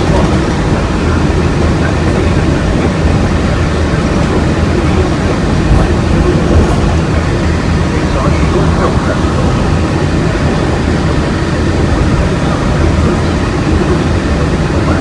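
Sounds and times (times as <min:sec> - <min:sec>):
monorail rumbling from inside: 0:00.0 - 0:15.0.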